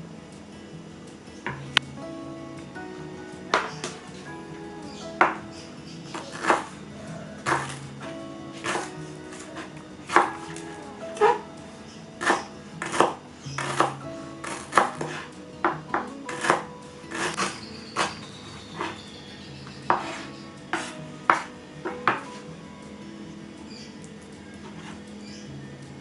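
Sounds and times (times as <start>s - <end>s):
soft background music: 0.0s - 26.0s.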